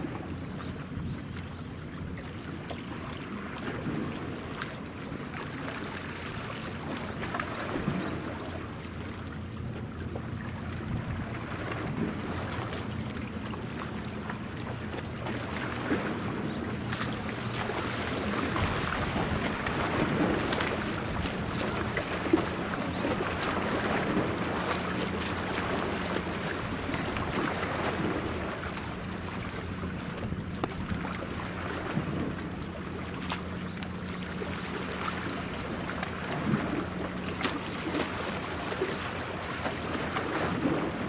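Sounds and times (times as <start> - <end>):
ship engine humming: 0.0 - 41.0
wind and water hissing: 0.0 - 41.0.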